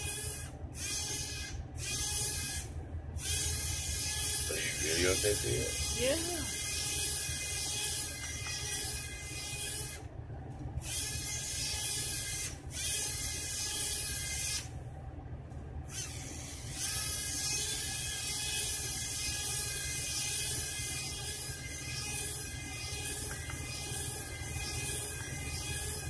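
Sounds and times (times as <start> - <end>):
electric propeller motor whine: 0.0 - 10.1, 10.8 - 14.8, 15.8 - 26.0.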